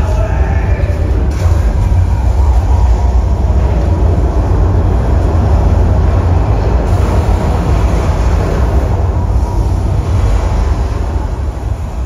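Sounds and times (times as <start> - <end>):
deep continuous rumble: 0.0 - 12.0.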